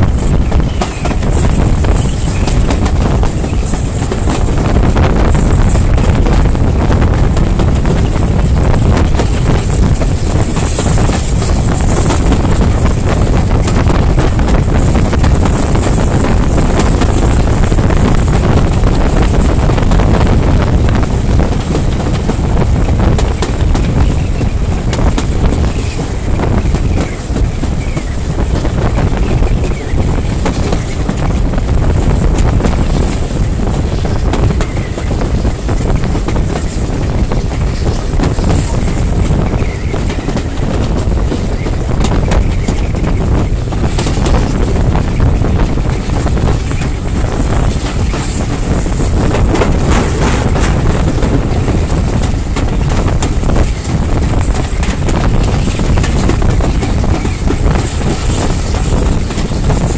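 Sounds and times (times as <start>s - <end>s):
train rumbling on rails: 0.0s - 59.9s
wind buffeting microphone: 0.0s - 59.9s.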